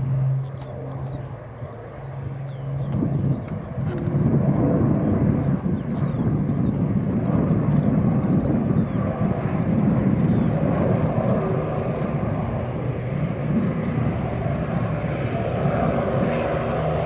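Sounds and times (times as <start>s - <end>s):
aircraft engine rumble: 0.0s - 17.0s.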